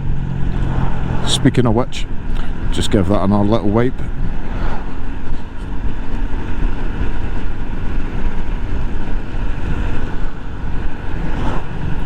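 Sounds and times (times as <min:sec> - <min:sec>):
motorcycle riding: 0:00.0 - 0:12.0
wind rushing over microphone: 0:00.0 - 0:12.0.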